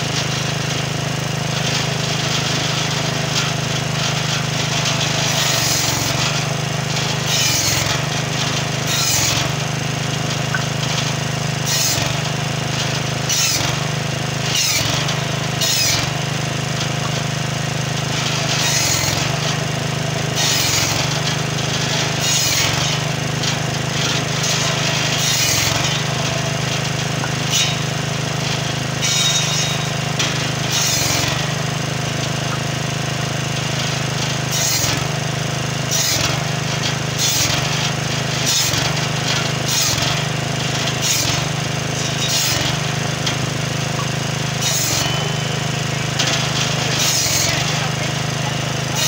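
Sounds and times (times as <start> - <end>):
circular saw blade cutting logs: 0.0 - 49.0
saw engine running: 0.0 - 49.0.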